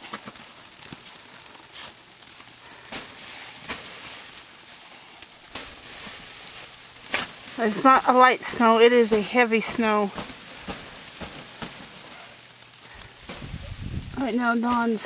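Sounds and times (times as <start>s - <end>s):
falling snow hiss: 0.0s - 15.0s
light clicks and crunches: 0.0s - 15.0s.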